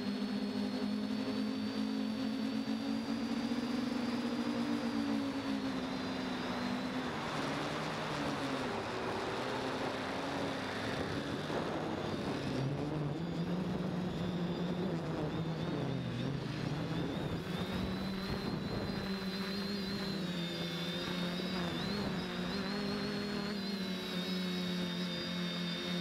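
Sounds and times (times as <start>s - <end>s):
drone motors whirring: 0.0s - 26.0s
high wavering whine: 0.0s - 26.0s.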